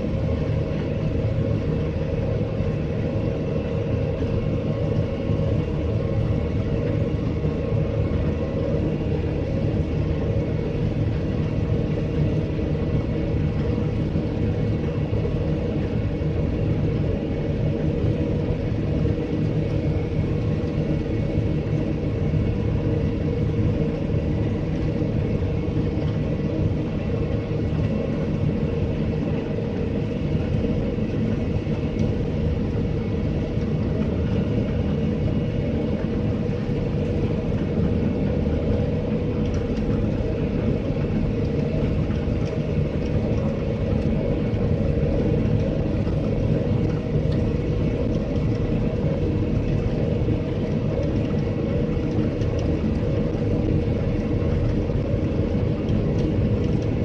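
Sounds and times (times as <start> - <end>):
constant machinery whine: 0.0 - 57.0.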